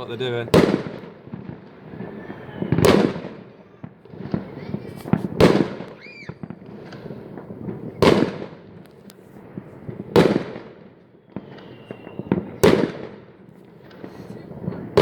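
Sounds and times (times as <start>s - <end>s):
firework bangs: 0.0s - 15.0s
firework pops and crackles: 0.0s - 15.0s
firework whistling: 0.0s - 15.0s.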